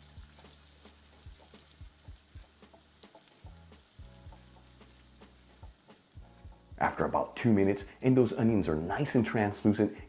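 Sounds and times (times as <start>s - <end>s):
onion sizzling in oil: 0.0s - 9.1s.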